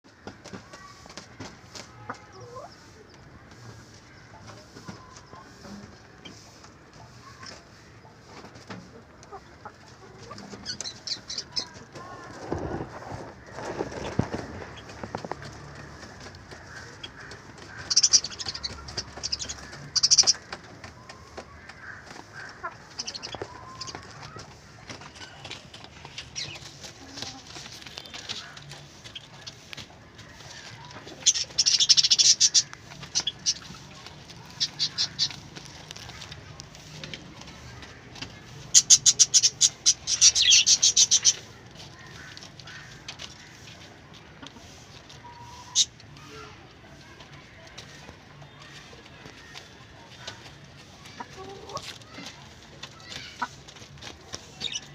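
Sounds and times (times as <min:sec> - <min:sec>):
birds chirping: 0:00.0 - 0:54.9
chickens clucking: 0:00.0 - 0:54.9.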